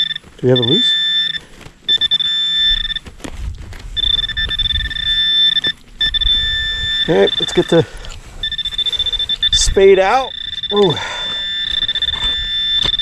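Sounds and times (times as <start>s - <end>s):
metal detector high-pitched tone: 0.0s - 3.1s, 4.0s - 13.0s.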